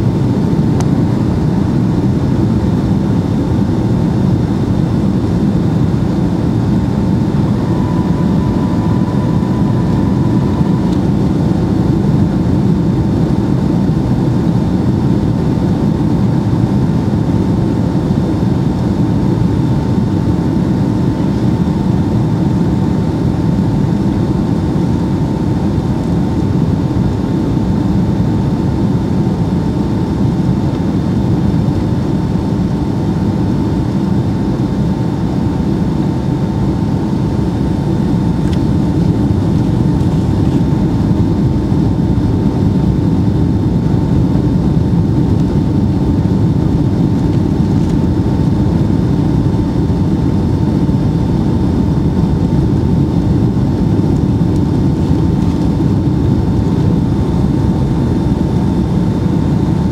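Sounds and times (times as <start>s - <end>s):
airplane cabin roar: 0.0s - 59.9s
faint steady whine: 0.0s - 59.9s.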